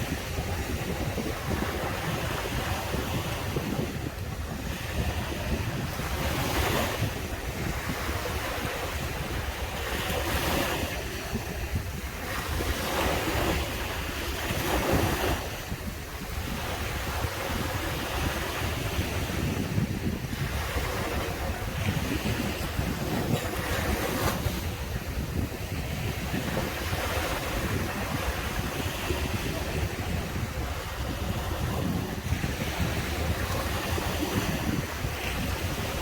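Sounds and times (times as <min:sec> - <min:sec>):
sea waves breaking on sand: 0:00.0 - 0:36.0
wind buffeting microphone: 0:00.0 - 0:36.0.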